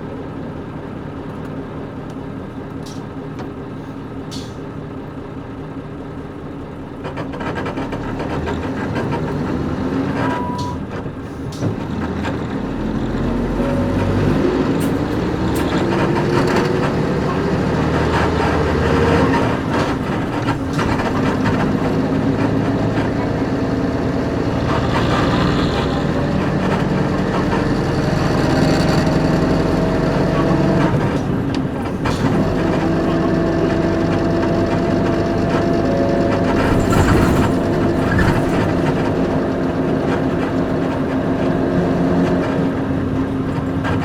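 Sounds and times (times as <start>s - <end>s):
bus diesel engine accelerating: 0.0s - 44.0s.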